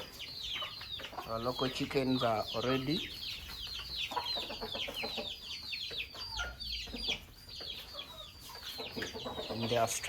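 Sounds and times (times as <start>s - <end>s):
chickens low calls: 0.0s - 10.0s
chicks peeping: 0.0s - 10.0s.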